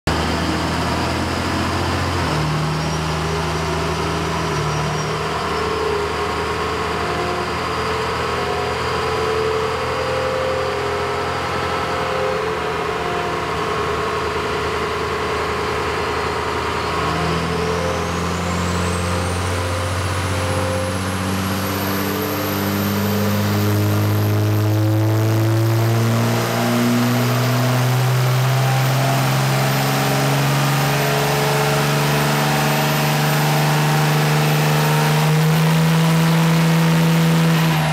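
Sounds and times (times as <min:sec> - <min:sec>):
diesel engine revving: 0:00.1 - 0:37.9
turbo whistle rising: 0:01.8 - 0:37.9.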